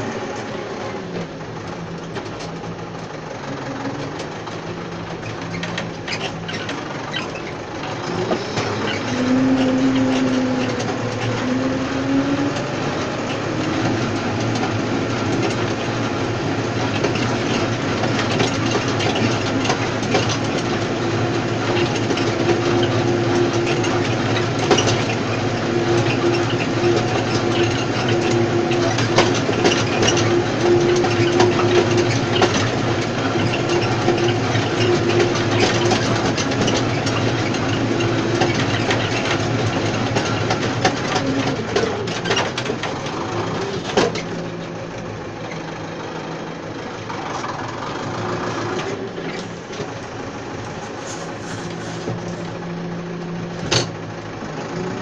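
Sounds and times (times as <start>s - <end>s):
tractor engine running: 0.0s - 55.0s
metal rattling and clicking: 1.5s - 45.7s.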